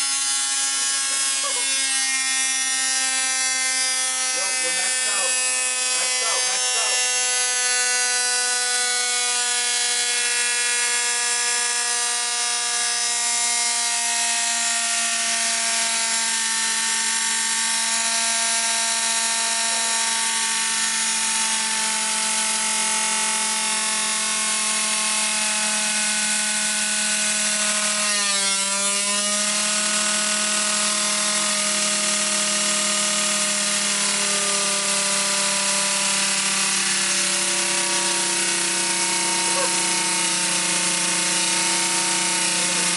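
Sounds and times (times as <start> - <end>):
toy piston engine whining: 0.0 - 10.3, 15.2 - 24.1, 27.5 - 42.9.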